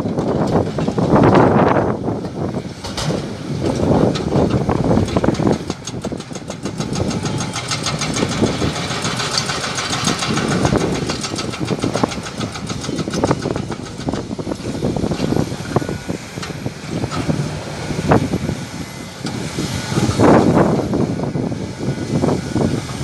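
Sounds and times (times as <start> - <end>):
diesel engine running: 0.0 - 23.0
hydraulic breaker hammering rock: 0.0 - 23.0.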